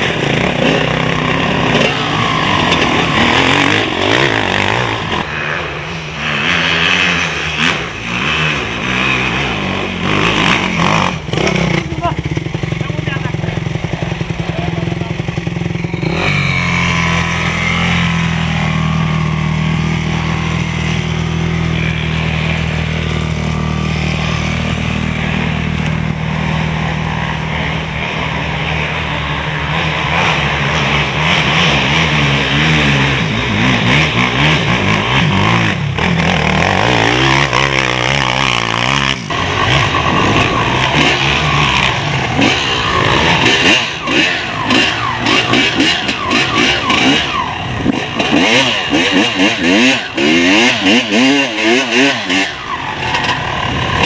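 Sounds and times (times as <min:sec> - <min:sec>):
off-road motorcycle engines revving: 0:00.0 - 0:54.0.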